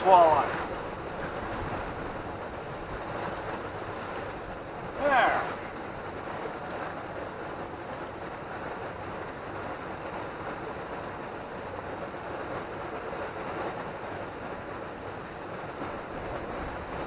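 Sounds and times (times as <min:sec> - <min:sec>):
rushing river current: 0:00.0 - 0:17.0.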